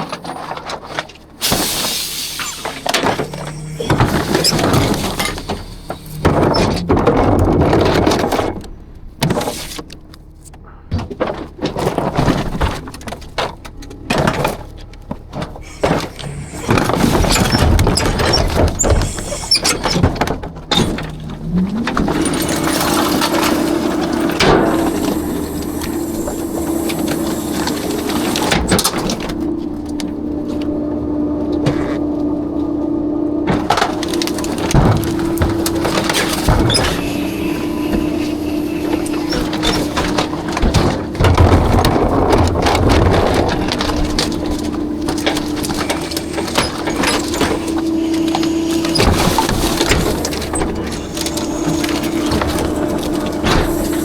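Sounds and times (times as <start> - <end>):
trash and metal clattering: 0.0 - 54.0
truck engine and hydraulics whining: 0.0 - 54.0.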